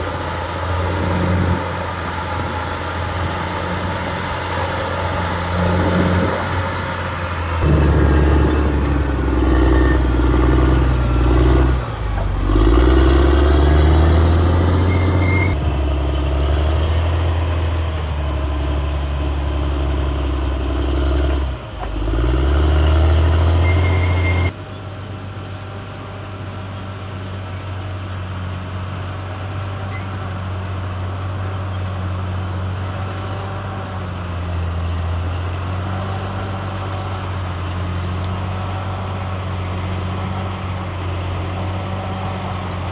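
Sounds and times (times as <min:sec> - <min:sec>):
bulldozer diesel engine: 0:00.0 - 0:42.9.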